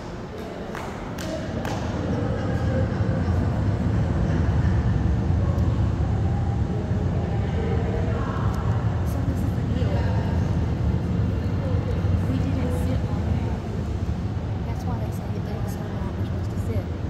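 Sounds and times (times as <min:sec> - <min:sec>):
murmur of voices: 0:00.0 - 0:17.0.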